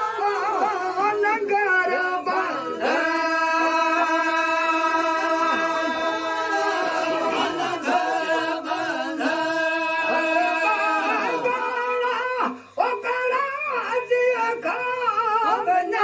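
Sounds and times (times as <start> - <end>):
men singing unaccompanied: 0.0 - 16.0.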